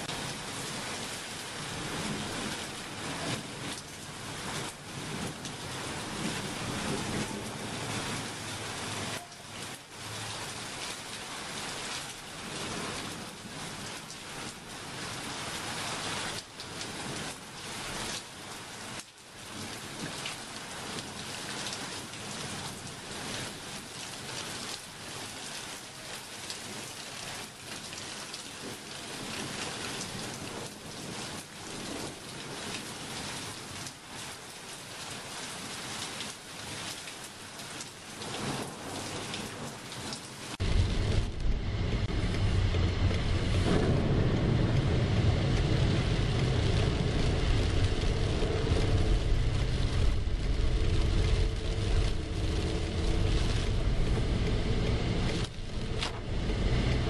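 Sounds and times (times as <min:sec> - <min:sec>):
raindrops hitting close by: 0:00.0 - 0:57.0
steady rain hiss: 0:00.0 - 0:57.0.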